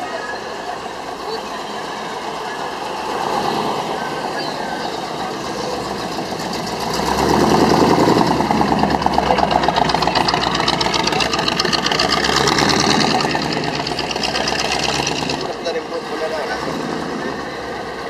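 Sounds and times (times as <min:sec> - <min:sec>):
car engine pulling away: 0:00.4 - 0:18.0.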